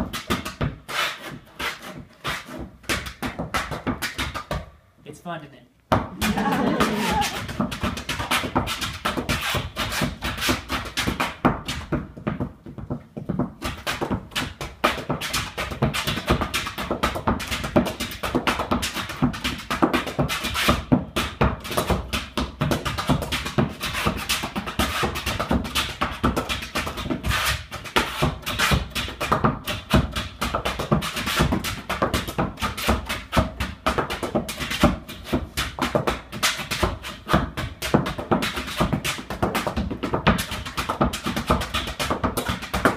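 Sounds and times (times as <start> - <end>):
hard shoes striking dance board: 0.0 - 4.8, 5.9 - 42.9.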